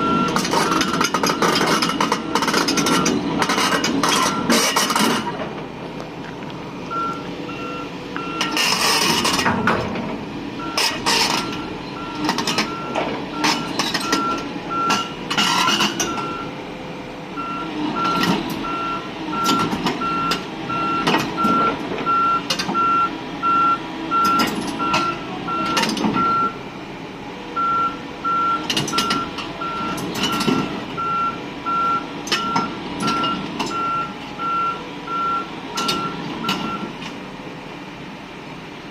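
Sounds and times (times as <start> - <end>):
excavator travel alarm beeping: 0.0 - 5.3, 6.9 - 9.5, 10.6 - 16.7, 17.3 - 26.8, 27.5 - 37.0
excavator engine running: 0.0 - 38.9.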